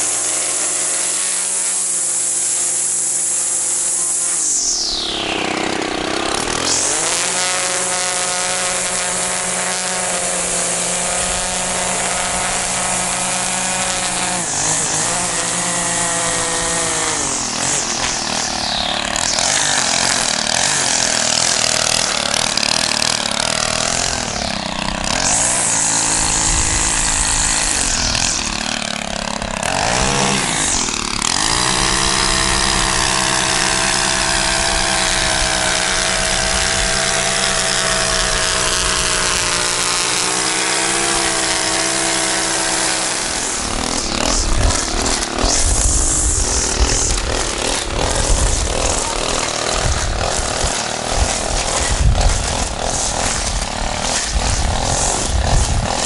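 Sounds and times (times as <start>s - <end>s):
string trimmer engine cutting grass: 0.0s - 56.0s.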